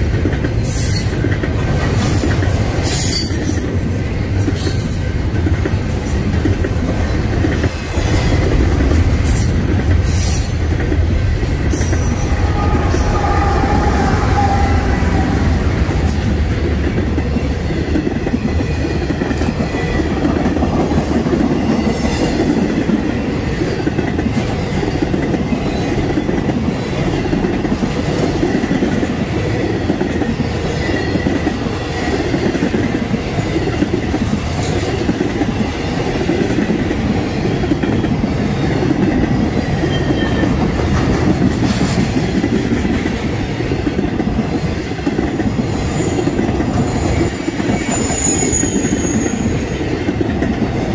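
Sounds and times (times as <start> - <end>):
clickety-clack over rail joints: 0.0 - 50.9
freight train wheels rumbling: 0.0 - 50.9.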